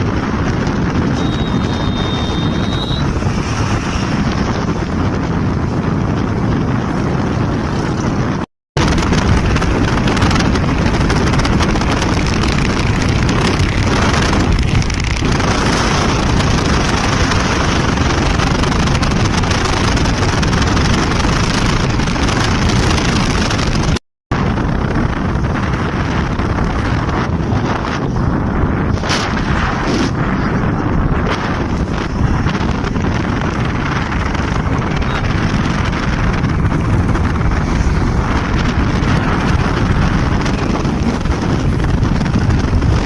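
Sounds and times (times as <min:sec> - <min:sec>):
motorcycle engine: 0:00.0 - 0:43.0
wind on microphone: 0:00.0 - 0:43.0.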